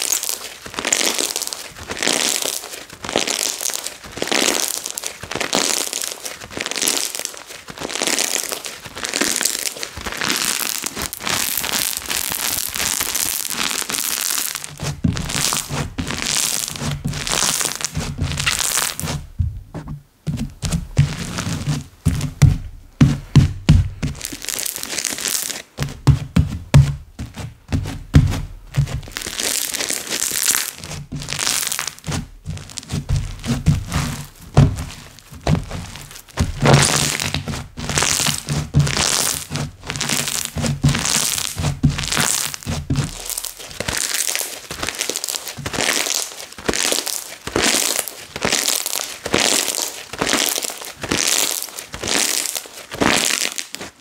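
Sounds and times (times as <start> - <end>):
slime crackling and popping: 0.0 - 19.2, 24.0 - 25.8, 28.8 - 54.0.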